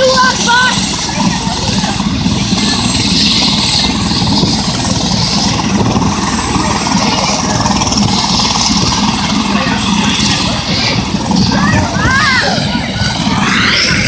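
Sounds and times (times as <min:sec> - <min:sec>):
helicopter turbine and rotor: 0:00.0 - 0:14.0.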